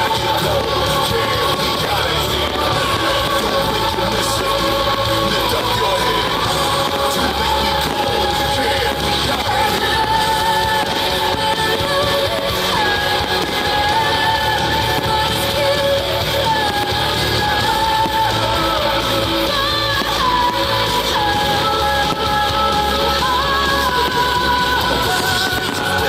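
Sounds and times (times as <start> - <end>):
song with singer and bass: 0.0 - 26.0.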